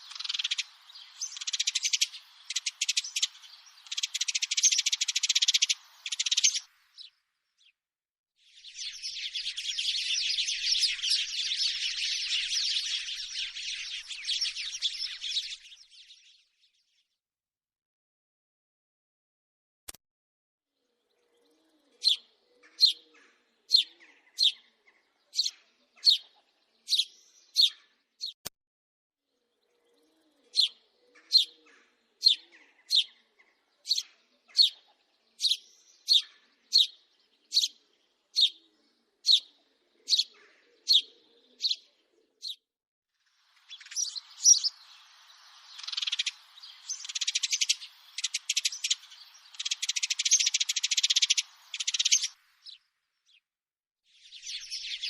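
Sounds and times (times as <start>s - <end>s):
sparrow chirping: 0.0s - 7.8s, 8.5s - 16.4s, 21.2s - 28.4s, 29.7s - 42.6s, 43.4s - 53.5s, 54.2s - 55.0s.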